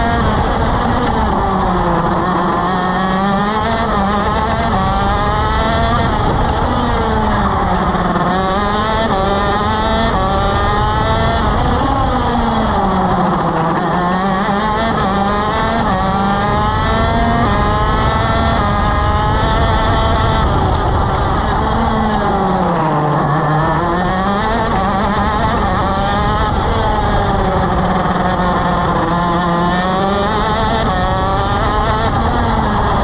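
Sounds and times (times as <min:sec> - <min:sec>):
kart engine at racing speed: 0:00.0 - 0:33.0.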